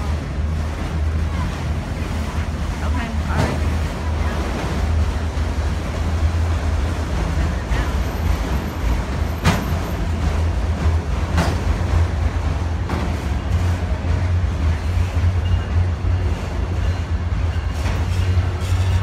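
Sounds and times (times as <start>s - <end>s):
freight train rumbling: 0.0s - 19.0s
train wheels clacking: 0.0s - 19.0s.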